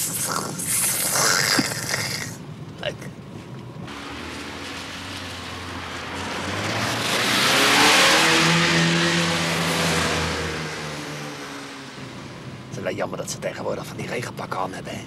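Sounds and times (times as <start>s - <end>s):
car engine running: 1.2s - 15.0s.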